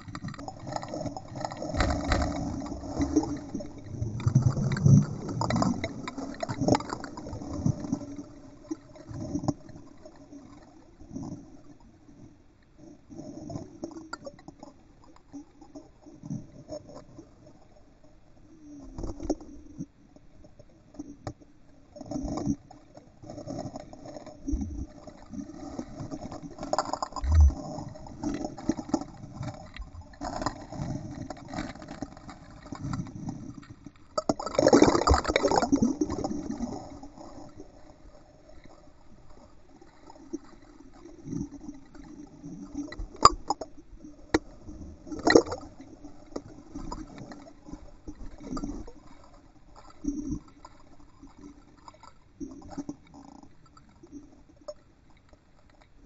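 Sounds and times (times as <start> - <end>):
muffled underwater sloshing and bubbling: 0.0 - 56.0.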